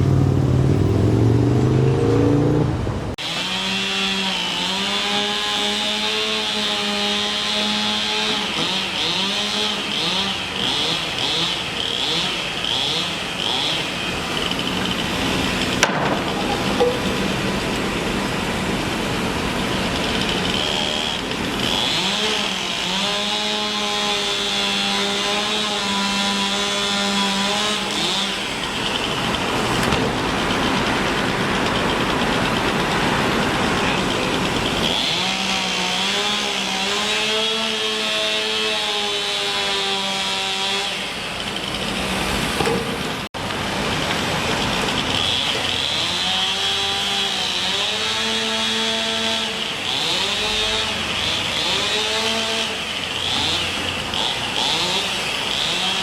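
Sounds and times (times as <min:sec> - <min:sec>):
road traffic: 0:00.0 - 0:56.0
power saw running: 0:03.1 - 0:56.0.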